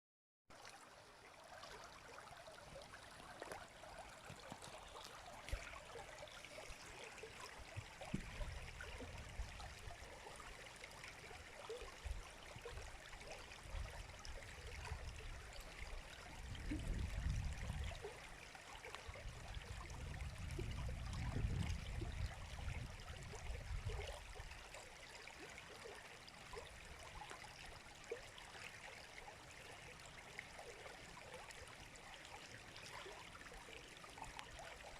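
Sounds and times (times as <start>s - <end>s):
river water babbling: 0.5s - 20.2s, 22.0s - 34.9s.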